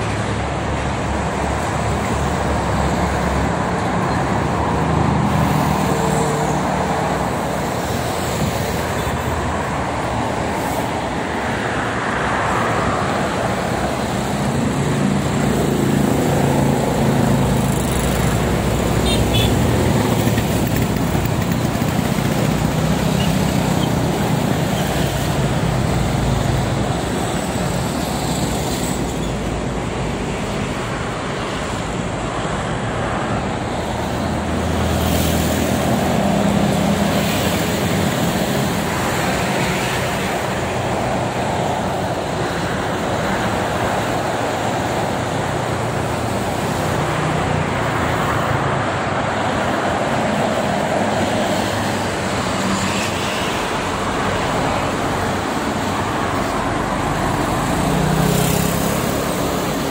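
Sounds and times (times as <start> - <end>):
cars passing at speed: 0.0 - 59.9
truck engines droning: 0.0 - 59.9.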